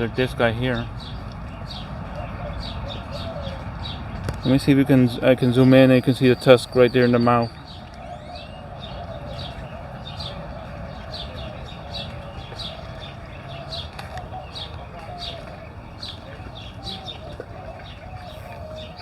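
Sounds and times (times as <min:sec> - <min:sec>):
warbling bird chatter: 0:00.0 - 0:19.0.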